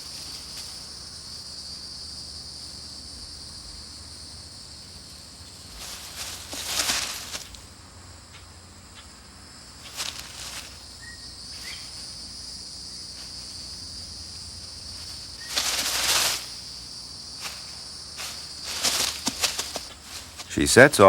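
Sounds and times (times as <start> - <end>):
rustling: 0.0 - 4.0, 4.6 - 7.8, 9.6 - 21.0
night insects chirring: 0.0 - 21.0.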